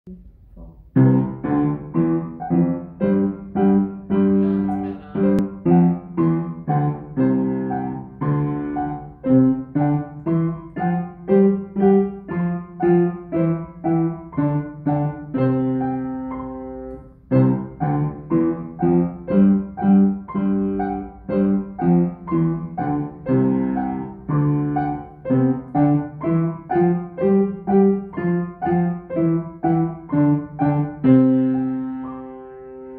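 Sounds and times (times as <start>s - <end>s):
upright piano tune: 0.8s - 32.9s.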